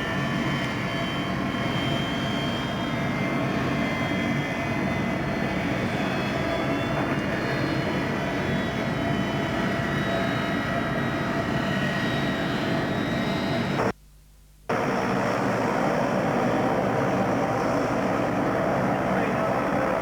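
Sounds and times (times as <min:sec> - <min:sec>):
jet engines rushing and whining: 0:00.0 - 0:14.0, 0:14.7 - 0:20.0.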